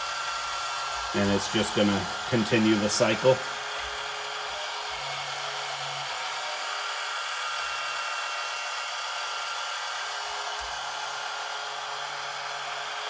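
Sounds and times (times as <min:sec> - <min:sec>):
toy truck electric motor whining: 0:00.0 - 0:13.0.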